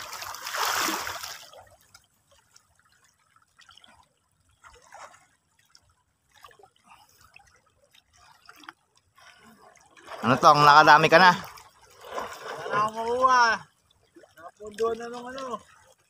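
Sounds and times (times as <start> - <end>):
seawater splashing and lapping: 0.0 - 16.0
water drips and small splashes: 0.0 - 16.0.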